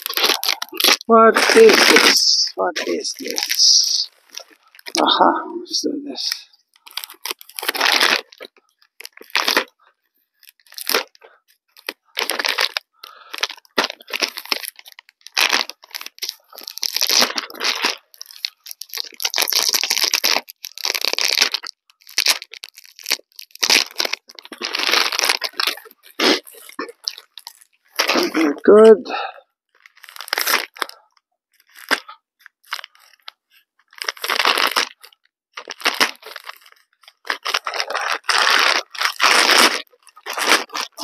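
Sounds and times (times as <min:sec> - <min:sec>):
plastic wrapping tearing and crinkling: 0:00.0 - 0:41.0.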